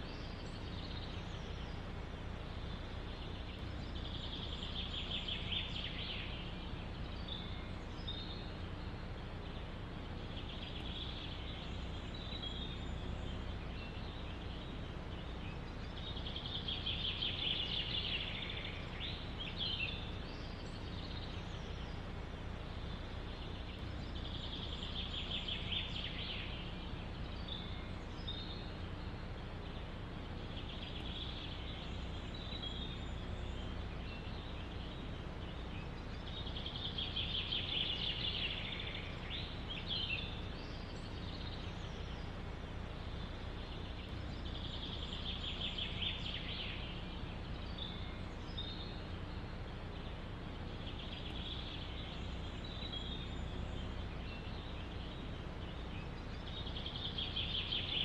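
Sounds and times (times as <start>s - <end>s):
songbird trilling: 0.0s - 58.0s
wind through trees: 0.0s - 58.0s.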